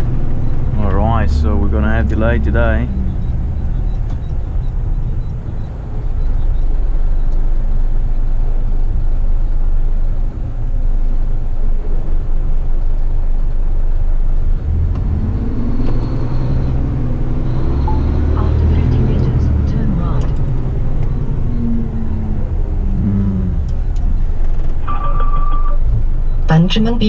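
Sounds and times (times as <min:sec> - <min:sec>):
truck diesel engine revving: 0:00.0 - 0:27.0.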